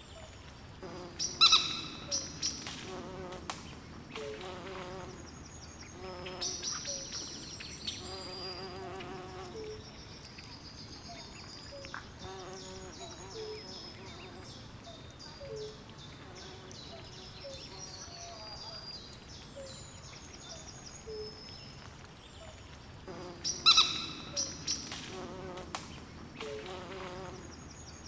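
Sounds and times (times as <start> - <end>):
steady low hiss: 0.0 - 28.0.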